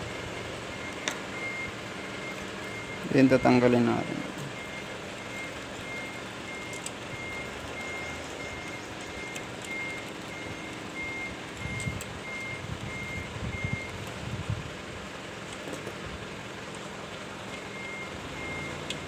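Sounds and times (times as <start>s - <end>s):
reversing alarm beeping: 0.0s - 14.0s, 17.6s - 19.0s.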